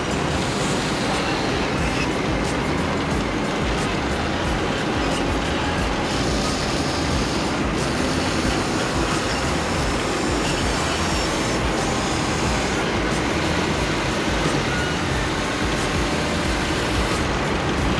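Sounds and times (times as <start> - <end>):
toy electric motors whining: 0.0 - 17.9.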